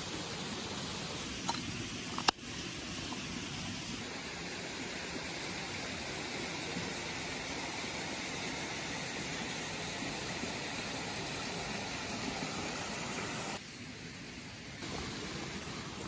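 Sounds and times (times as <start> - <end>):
mountain stream rushing: 0.0 - 13.6, 14.8 - 16.0.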